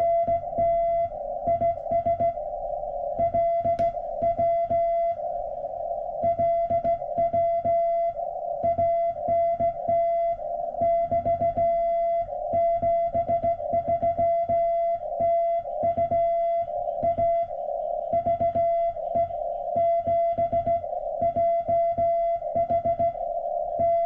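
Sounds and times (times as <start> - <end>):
morse code tone: 0.0 - 2.4, 3.2 - 5.2, 6.2 - 24.0.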